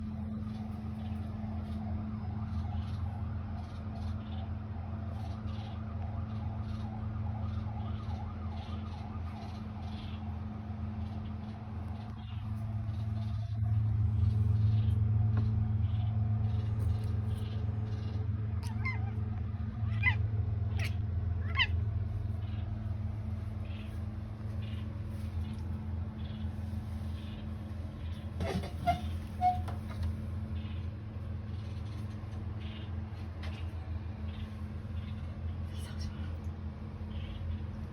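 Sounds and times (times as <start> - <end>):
low hum: 0.0 - 37.9.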